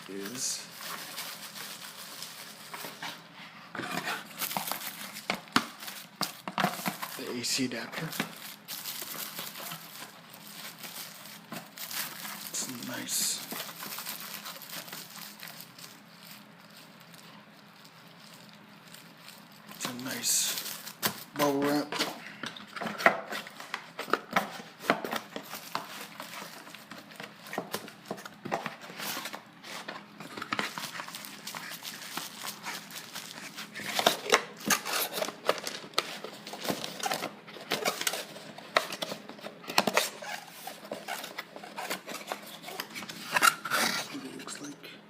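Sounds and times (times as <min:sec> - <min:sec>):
plastic packaging crinkling: 0:00.0 - 0:44.7.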